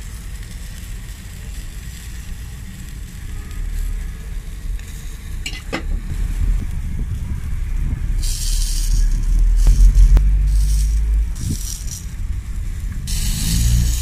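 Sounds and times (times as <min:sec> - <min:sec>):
food sizzling on griddle: 0:00.0 - 0:14.0
steady low rumble: 0:00.0 - 0:14.0.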